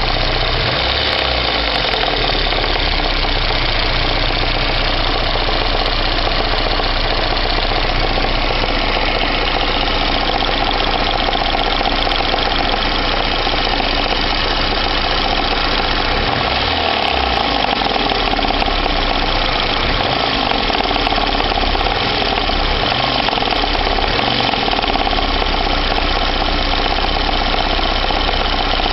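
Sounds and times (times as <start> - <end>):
car engine running: 0.0 - 28.9
engine knocking: 0.0 - 28.9.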